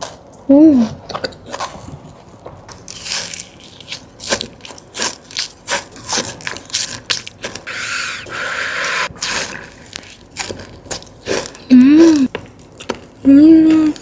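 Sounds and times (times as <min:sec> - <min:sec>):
crunchy biting and chewing: 0:01.1 - 0:13.2.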